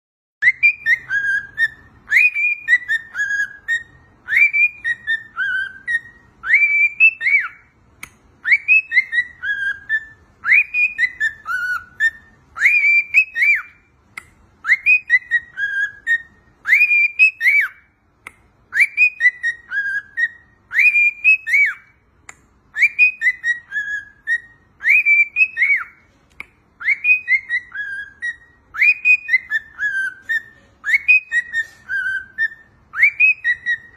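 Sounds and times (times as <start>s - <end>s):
cockatiel whistling a tune: 0.4s - 33.9s.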